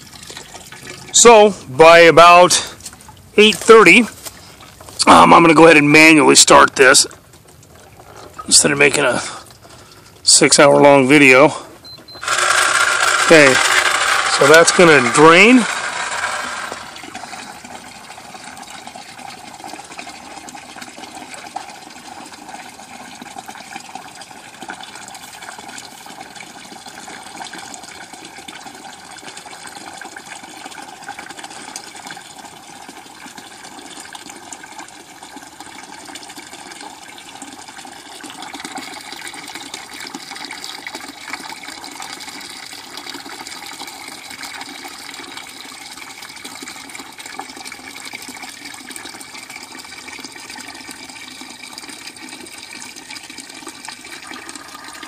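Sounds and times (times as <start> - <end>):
water trickling into plastic bucket: 0.0 - 55.0.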